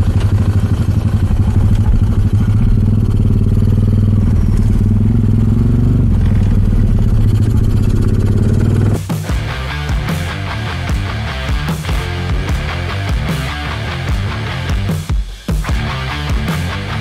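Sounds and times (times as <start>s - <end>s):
two-stroke motorcycle engine: 0.0s - 15.1s.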